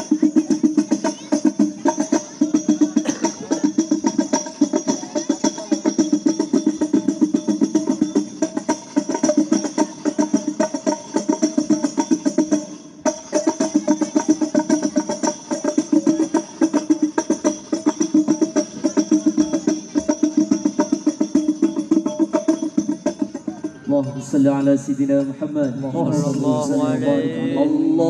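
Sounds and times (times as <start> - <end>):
hand drums over loudspeakers: 0.0 - 24.0.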